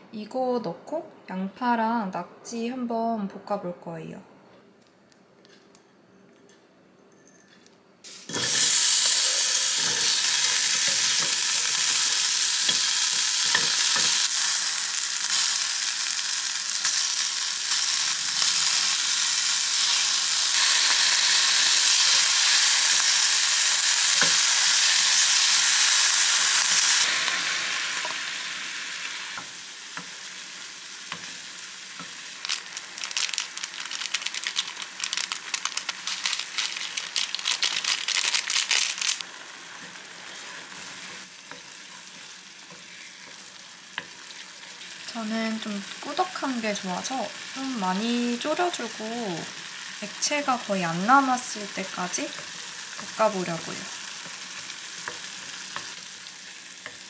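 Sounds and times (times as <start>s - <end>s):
food sizzling in hot oil: 8.1s - 57.0s.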